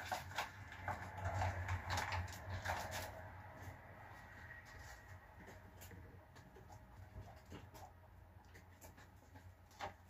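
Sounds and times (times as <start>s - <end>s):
handling clicks and rustling: 0.0s - 10.0s.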